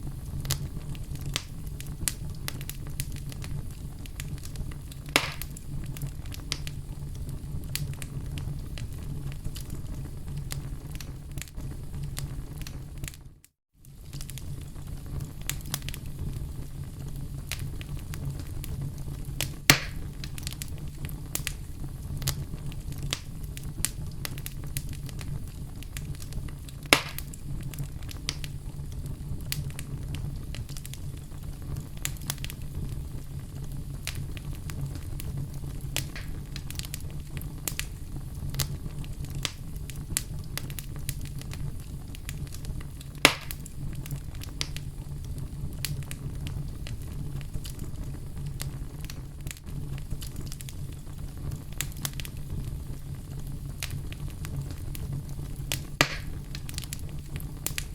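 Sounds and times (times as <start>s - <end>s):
campfire crackling: 0.0s - 57.9s
campfire popping: 0.0s - 57.9s.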